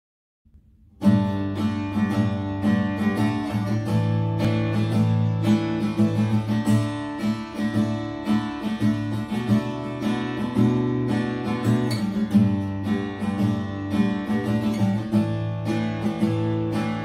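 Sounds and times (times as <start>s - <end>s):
acoustic guitar strumming and plucking: 0.5s - 17.0s.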